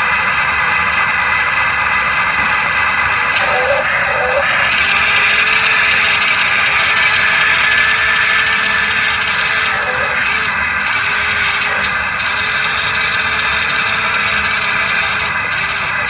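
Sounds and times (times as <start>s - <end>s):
model excavator mechanical whirr: 0.0s - 16.0s.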